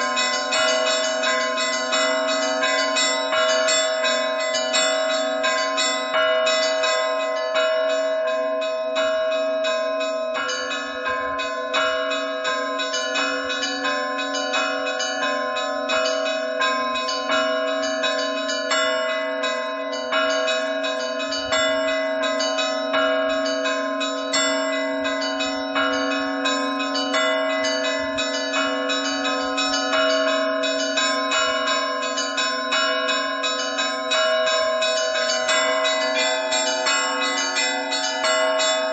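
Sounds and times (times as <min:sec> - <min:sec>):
small bells struck rapidly: 0:00.0 - 0:07.9, 0:11.7 - 0:38.9
large bells ringing steadily: 0:00.0 - 0:38.9.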